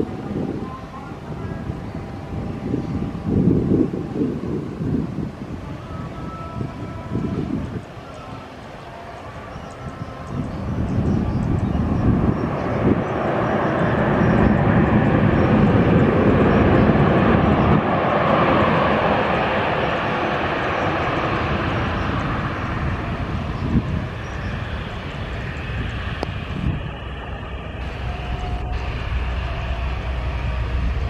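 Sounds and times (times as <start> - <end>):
jet engines passing: 0.0 - 31.0.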